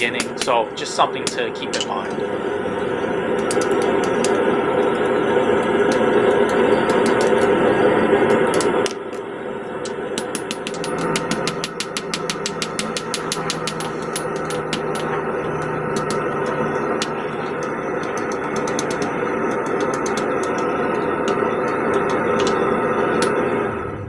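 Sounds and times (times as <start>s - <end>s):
hammer blows on hot steel: 0.0s - 2.4s, 3.2s - 23.7s
low hum: 1.4s - 24.0s.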